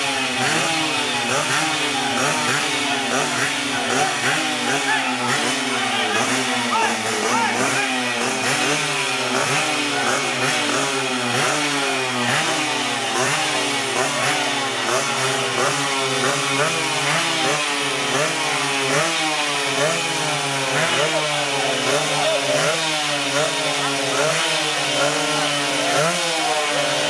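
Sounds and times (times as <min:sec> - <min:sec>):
small motorcycle engines revving: 0:00.0 - 0:27.0.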